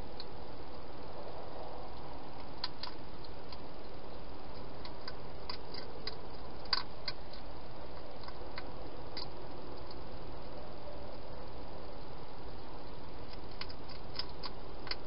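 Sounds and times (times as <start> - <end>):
steady hiss: 0.0 - 15.0
hedgehog crunching food: 1.9 - 11.3, 11.9 - 15.0.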